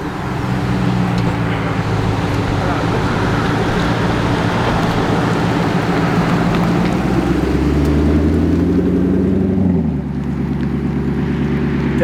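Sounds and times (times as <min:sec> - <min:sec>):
car engine high revs: 0:00.0 - 0:12.0
tyre noise: 0:00.0 - 0:12.0.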